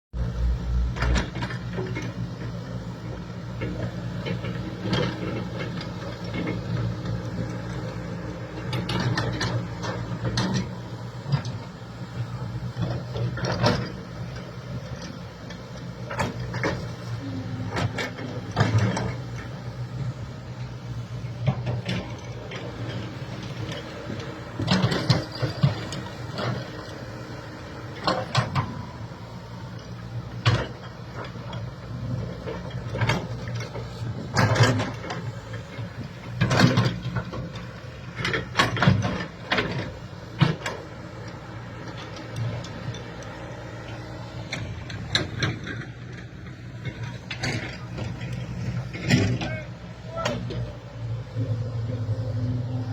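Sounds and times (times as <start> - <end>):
backhoe engine running: 0.1 - 52.9.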